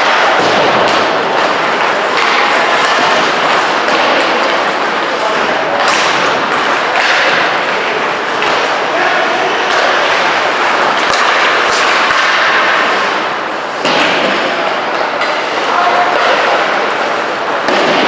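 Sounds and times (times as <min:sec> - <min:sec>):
hockey sticks and puck knocking: 0:00.0 - 0:18.0
skate blades scraping ice: 0:00.0 - 0:18.0.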